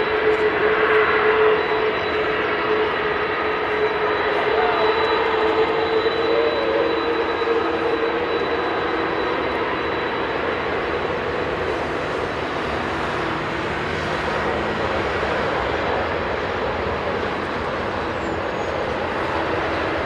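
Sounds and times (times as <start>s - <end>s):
jet engines at take-off power: 0.0s - 20.0s.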